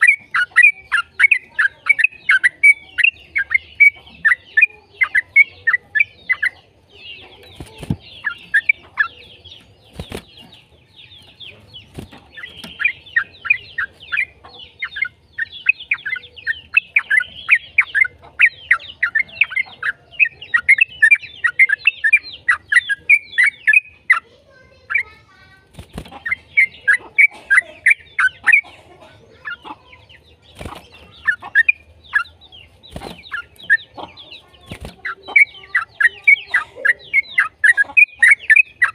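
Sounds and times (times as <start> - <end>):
bulbul fast chattering song: 0.0 - 38.9.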